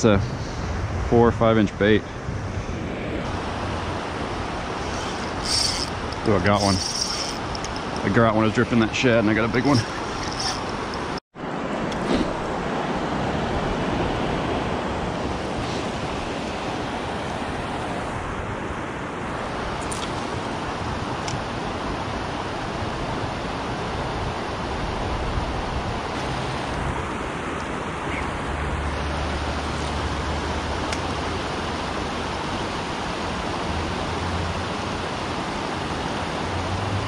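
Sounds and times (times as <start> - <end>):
river water rushing over rocks: 3.2 - 37.0.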